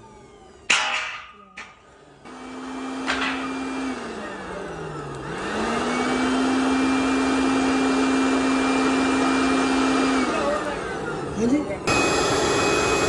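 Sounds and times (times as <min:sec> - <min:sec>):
machine motor humming: 0:01.3 - 0:13.0.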